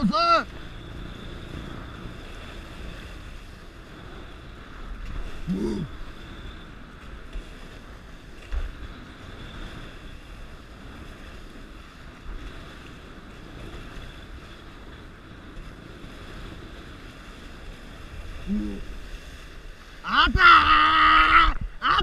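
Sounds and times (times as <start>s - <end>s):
water rushing along boat hulls: 0.0s - 22.0s.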